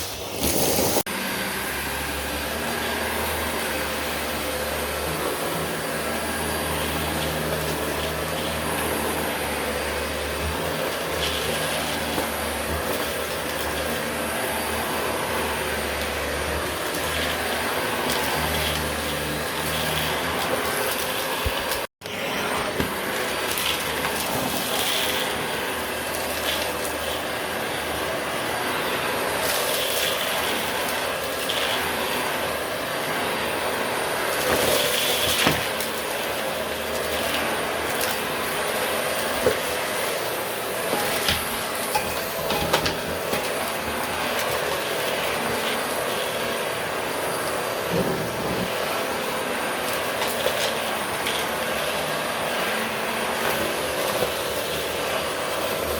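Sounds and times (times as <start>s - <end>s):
vacuum cleaner on carpet: 0.0s - 55.9s.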